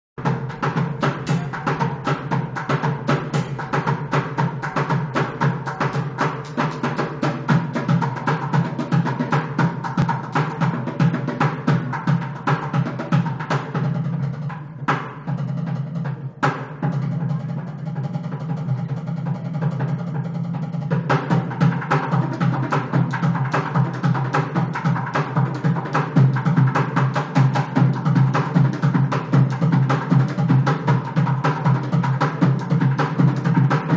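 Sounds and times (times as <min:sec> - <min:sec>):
drummers playing fast rhythm: 0:00.2 - 0:33.9.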